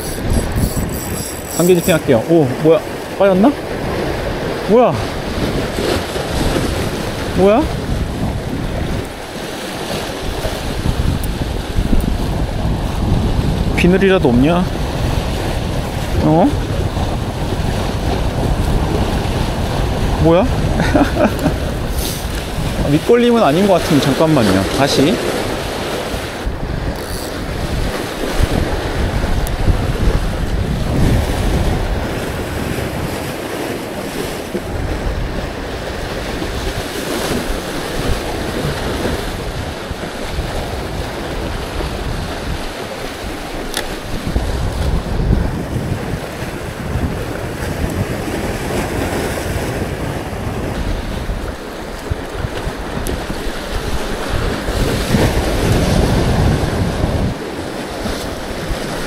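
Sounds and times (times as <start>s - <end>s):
waves splashing against concrete: 0.0s - 59.0s
wind buffeting microphone: 0.0s - 59.0s.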